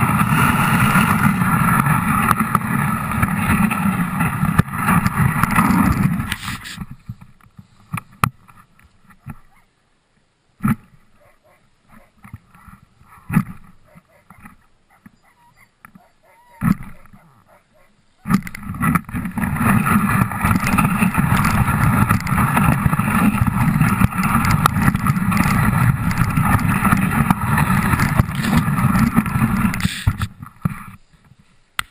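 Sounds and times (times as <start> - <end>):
sled runners scraping on snow: 0.0 - 9.6, 10.6 - 31.6.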